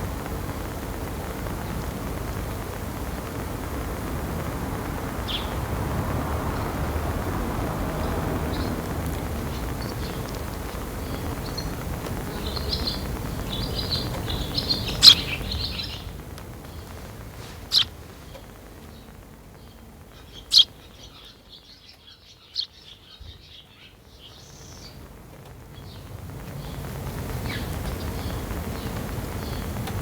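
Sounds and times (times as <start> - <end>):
low background rumble: 0.0 - 30.0
sparrow chirping: 4.2 - 30.0.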